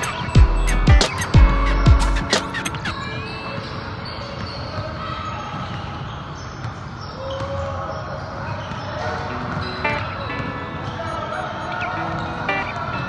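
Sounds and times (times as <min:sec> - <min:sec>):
basketball bouncing on court: 0:00.0 - 0:12.9
voices in a hall: 0:00.0 - 0:13.0.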